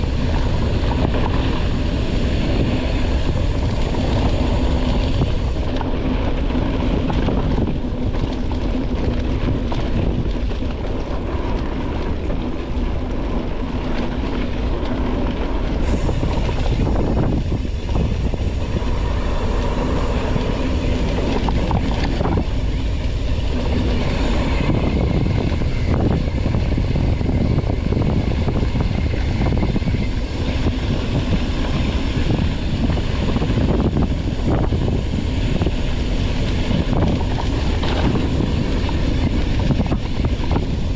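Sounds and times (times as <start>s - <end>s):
bike rattling over rocks: 0.0s - 40.9s
tyres rolling on dirt: 0.0s - 40.9s.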